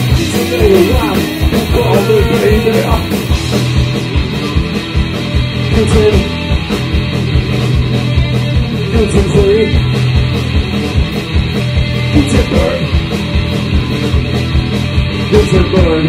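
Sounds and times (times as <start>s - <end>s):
drum kit beat: 0.0s - 16.0s
electric guitar: 0.0s - 16.0s.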